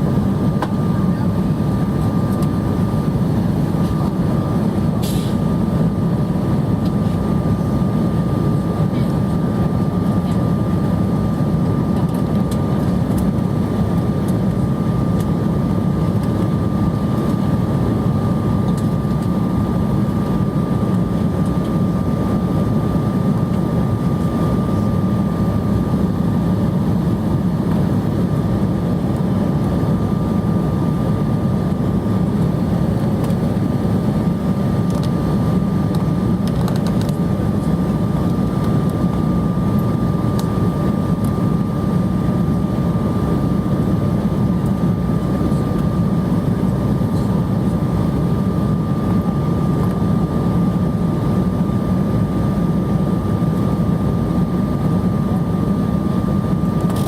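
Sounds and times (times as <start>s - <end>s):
jet engines and airflow roaring: 0.0s - 57.0s.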